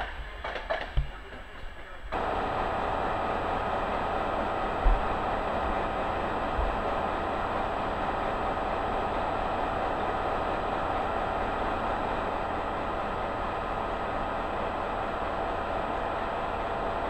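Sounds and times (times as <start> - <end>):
electric locomotive humming: 0.0 - 17.0.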